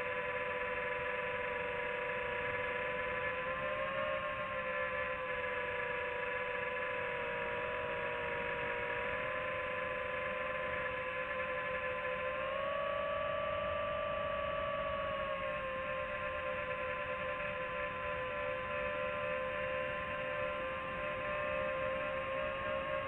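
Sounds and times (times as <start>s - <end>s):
quadcopter propellers whining: 0.0s - 23.0s.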